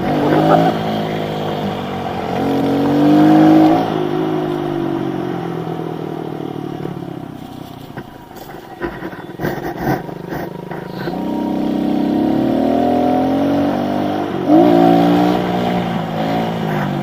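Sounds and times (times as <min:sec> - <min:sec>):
small motorbike engine revving: 0:00.0 - 0:17.0.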